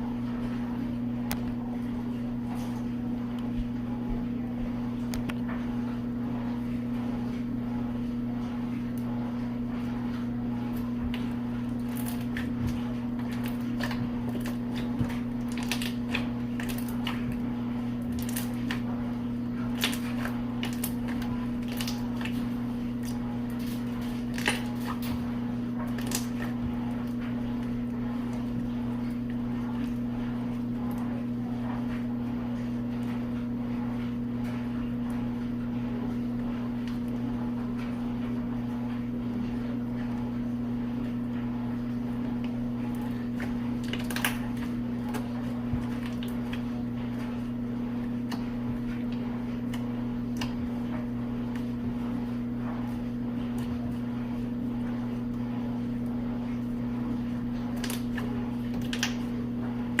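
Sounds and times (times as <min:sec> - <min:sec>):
low mechanical hum: 0:00.0 - 1:00.0.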